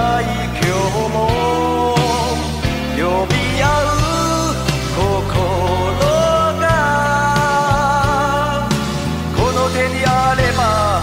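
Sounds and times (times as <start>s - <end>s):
man singing: 0.0s - 11.0s
pop band playing: 0.0s - 11.0s.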